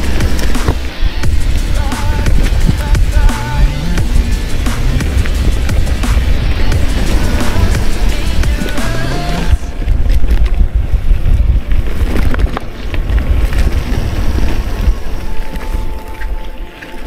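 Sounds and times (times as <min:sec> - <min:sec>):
bike clicks and rattles: 0:00.0 - 0:17.0
tyres rolling over pine needles: 0:00.0 - 0:17.0
wind buffeting microphone: 0:00.0 - 0:17.0.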